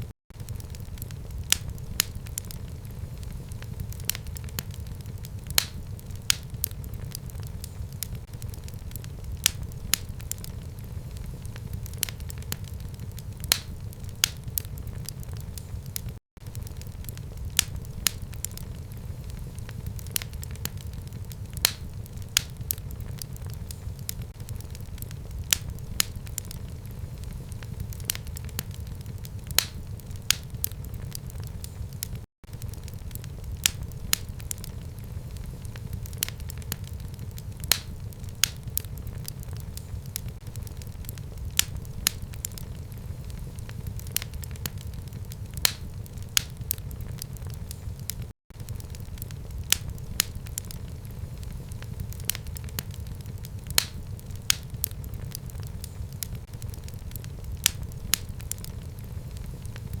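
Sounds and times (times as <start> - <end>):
fire crackling and rumbling: 0.0 - 60.0.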